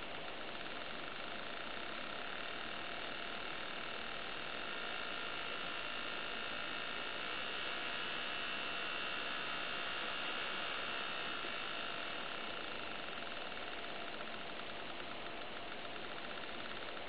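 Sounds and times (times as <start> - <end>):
electronic engine buzz: 0.0 - 17.0.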